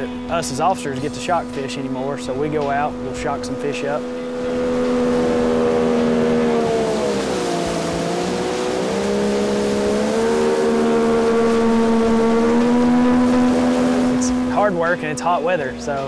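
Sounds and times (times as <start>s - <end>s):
generator running: 0.0s - 16.0s
outboard motor running: 0.0s - 16.0s.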